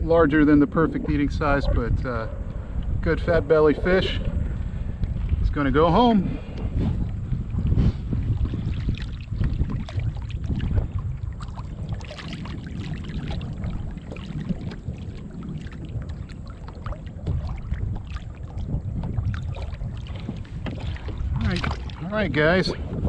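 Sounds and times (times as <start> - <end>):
wind rumbling on microphone: 0.0 - 23.0
water splashing against kayak: 2.5 - 23.0.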